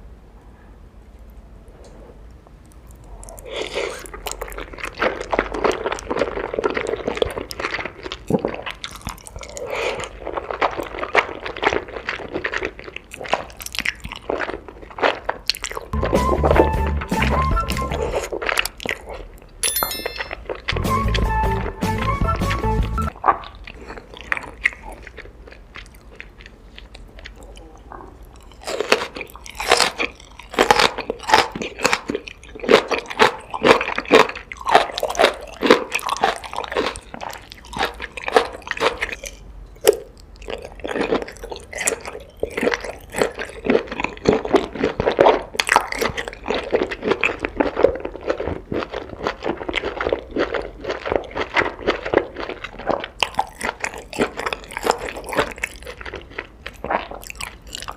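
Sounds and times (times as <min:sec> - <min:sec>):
chewing crunchy food: 0:01.2 - 0:19.6, 0:23.0 - 0:57.9.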